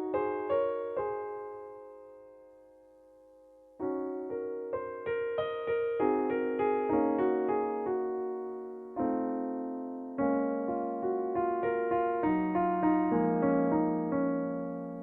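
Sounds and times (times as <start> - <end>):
soft solo piano: 0.0 - 15.0.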